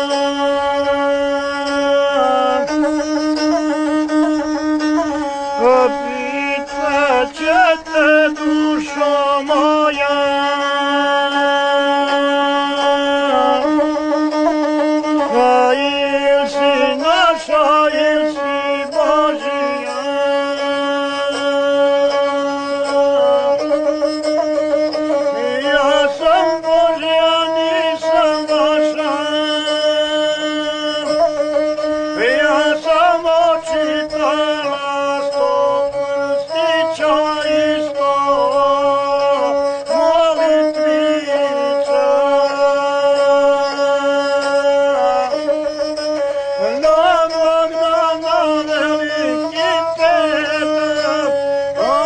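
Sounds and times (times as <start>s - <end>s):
folk instrument melody with drone: 0.0s - 52.0s.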